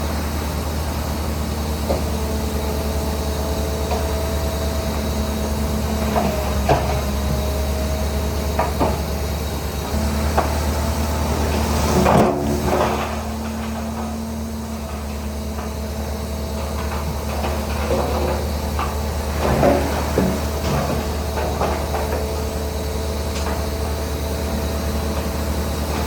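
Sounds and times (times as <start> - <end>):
bulldozer engine droning: 0.0 - 26.0.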